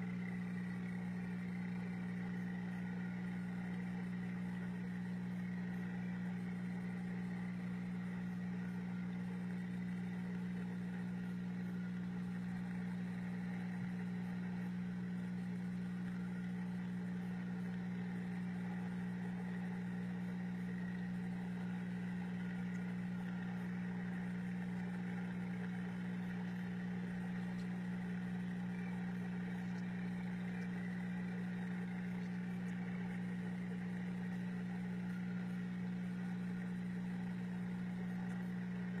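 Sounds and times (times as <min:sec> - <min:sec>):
fish tank pump humming: 0:00.0 - 0:39.0.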